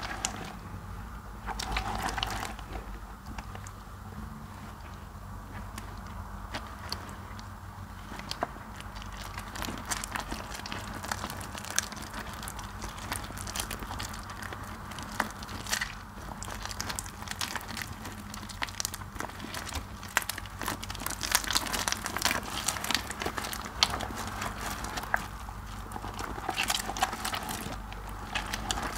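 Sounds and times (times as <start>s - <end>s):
wet soap paste squishing: 0.0s - 0.8s, 1.4s - 28.9s
steady low hum: 0.0s - 28.9s.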